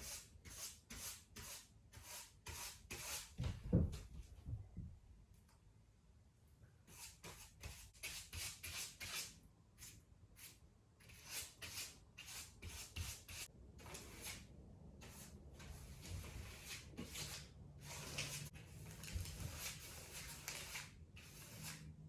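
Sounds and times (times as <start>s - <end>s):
brisk scraping strokes on surface: 0.0s - 3.3s, 6.9s - 21.9s.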